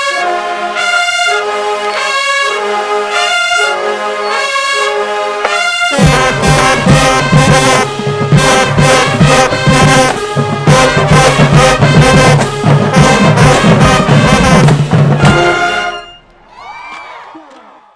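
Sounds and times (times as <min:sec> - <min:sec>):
marching band playing: 0:00.0 - 0:16.5.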